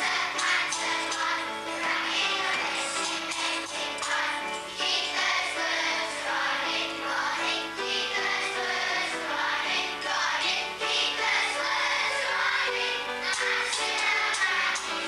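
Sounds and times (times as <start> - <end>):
children singing: 0.0 - 15.0
instrumental accompaniment: 0.0 - 15.0.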